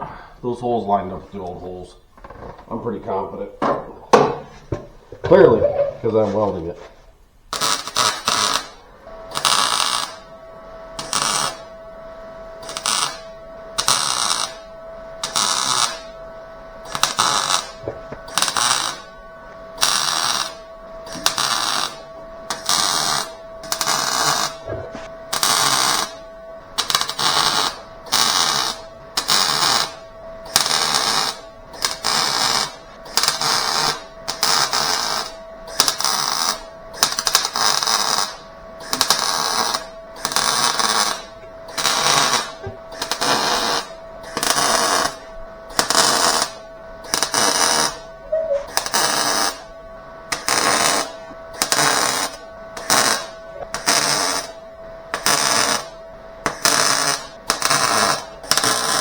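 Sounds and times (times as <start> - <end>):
faint steady hum: 0.0 - 59.0
crackling tack welds: 6.0 - 59.0.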